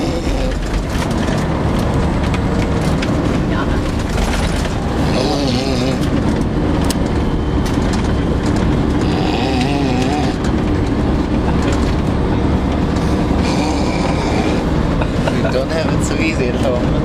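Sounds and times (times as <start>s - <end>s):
bus rumbling: 0.0s - 17.0s.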